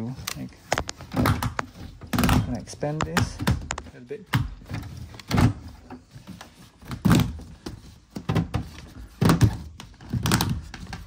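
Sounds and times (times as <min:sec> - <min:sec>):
plastic hose thunks and rustles: 0:00.0 - 0:11.0.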